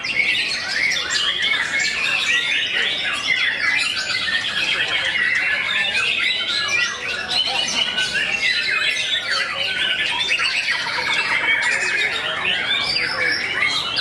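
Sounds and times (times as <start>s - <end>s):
birds whistling and chirping: 0.0s - 14.0s.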